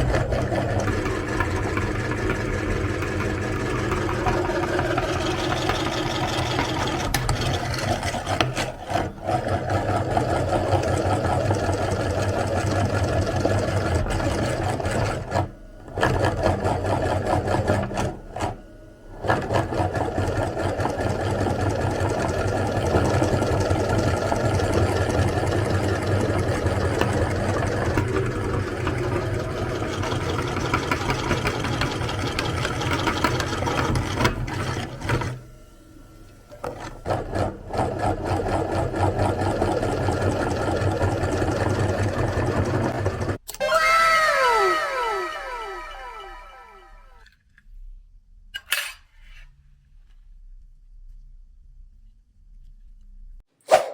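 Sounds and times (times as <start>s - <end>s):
meat grinder motor grinding: 0.0s - 47.3s.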